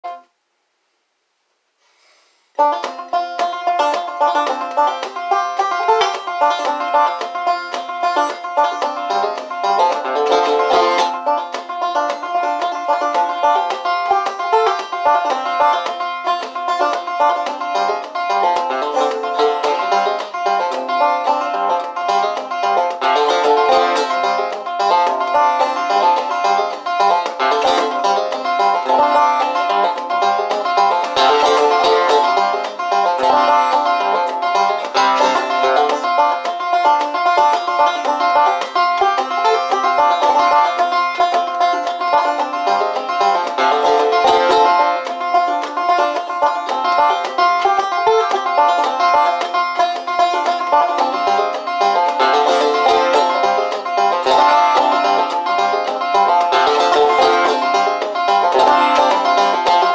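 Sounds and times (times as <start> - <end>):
banjo plucking old-time tune: 0.0 - 0.3, 2.6 - 59.9.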